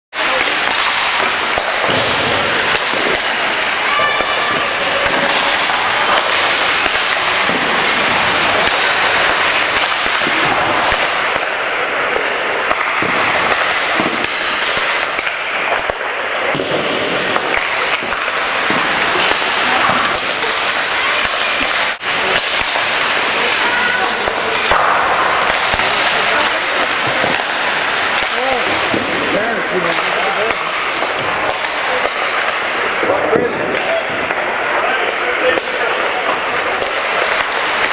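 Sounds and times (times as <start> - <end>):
chatter of many voices: 0.2 - 37.9
hockey sticks and pucks clacking: 0.2 - 37.9.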